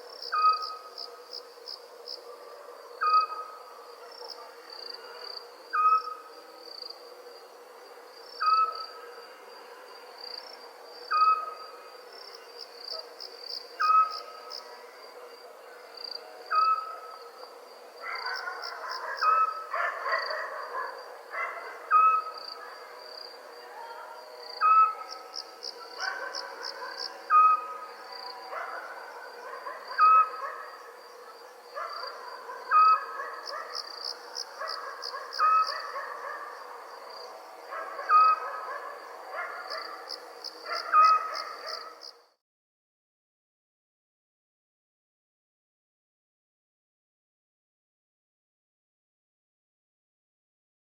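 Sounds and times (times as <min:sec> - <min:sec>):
crickets chirring: 0:00.0 - 0:42.3.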